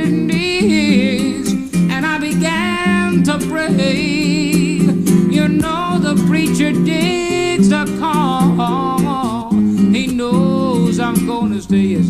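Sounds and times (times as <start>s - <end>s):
acoustic guitar: 0.0s - 12.0s
man singing with vibrato: 0.0s - 12.0s.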